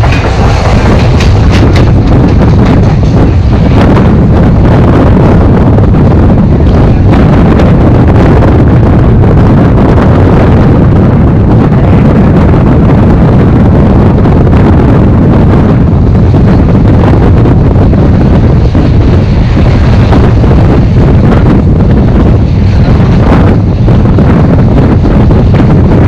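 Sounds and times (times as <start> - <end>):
train rumbling along track: 0.0 - 26.0
wind buffeting microphone: 0.0 - 26.0.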